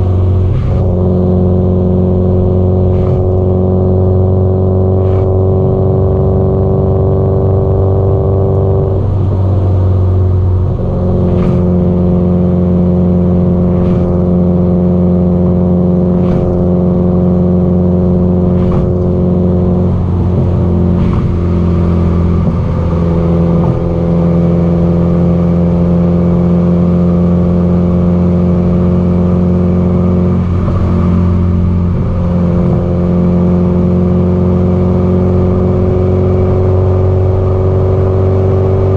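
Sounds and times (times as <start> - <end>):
car engine cruising: 0.0 - 38.9.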